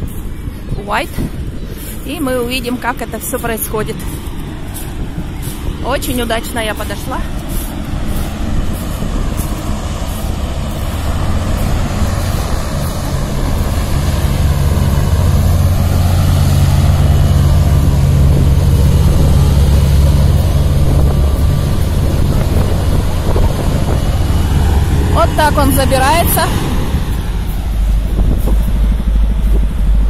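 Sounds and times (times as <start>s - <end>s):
hovercraft low drone: 0.0s - 30.0s.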